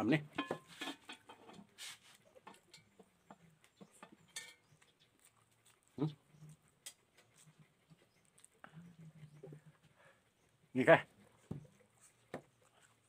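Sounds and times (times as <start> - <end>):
chewing: 1.6 - 13.0.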